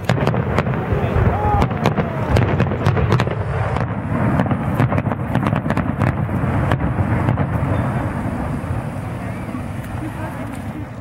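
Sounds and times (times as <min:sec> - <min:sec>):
fireworks pops and crackles: 0:00.0 - 0:11.0.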